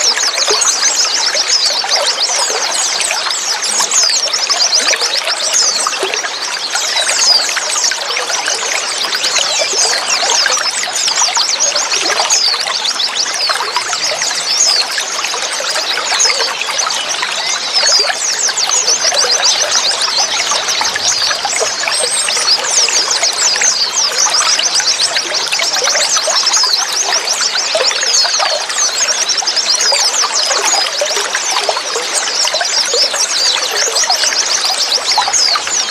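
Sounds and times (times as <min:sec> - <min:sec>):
water trickling: 0:00.0 - 0:35.9.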